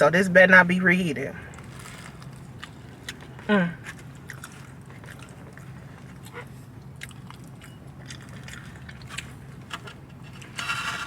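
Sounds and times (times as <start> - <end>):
steady low hum: 0.0 - 11.0
person chewing: 1.5 - 10.6.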